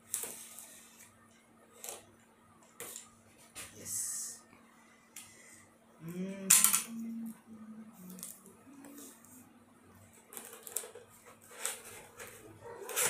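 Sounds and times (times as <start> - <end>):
faint wavering whine: 0.0 - 12.8.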